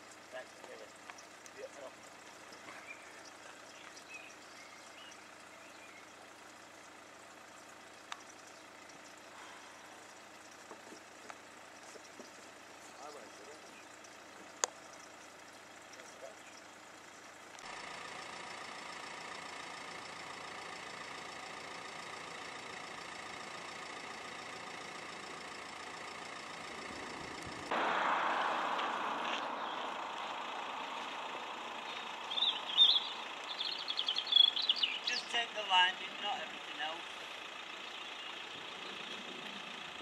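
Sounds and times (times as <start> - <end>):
birds chirping: 0.0 - 17.7, 19.7 - 40.0
engine hum: 0.0 - 40.0.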